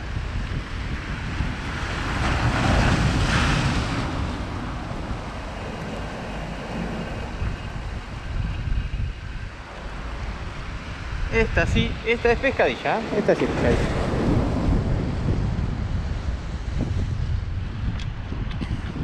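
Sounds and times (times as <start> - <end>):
surf washing over rocks: 0.0 - 16.6
wind on microphone: 0.0 - 19.0.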